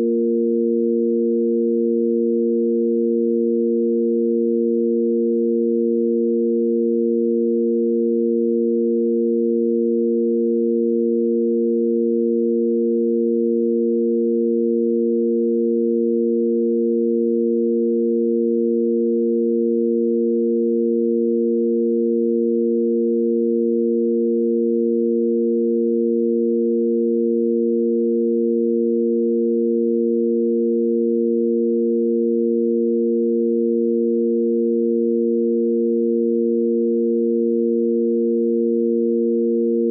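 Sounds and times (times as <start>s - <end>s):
steady sine wave drone: 0.0s - 39.9s.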